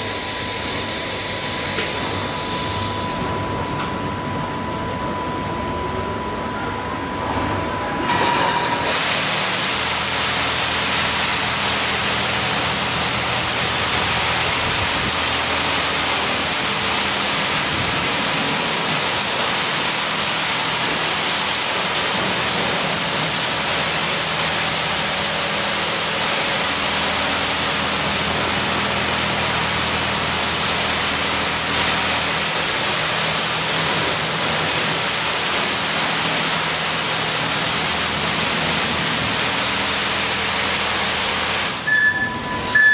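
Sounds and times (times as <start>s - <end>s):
high-pressure water spray hissing: 0.0s - 3.0s, 8.7s - 42.0s
low machine hum: 0.0s - 42.9s.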